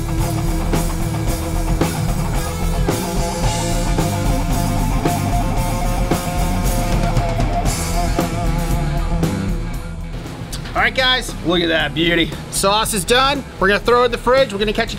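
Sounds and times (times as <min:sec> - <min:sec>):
rock band jamming: 0:00.0 - 0:14.9.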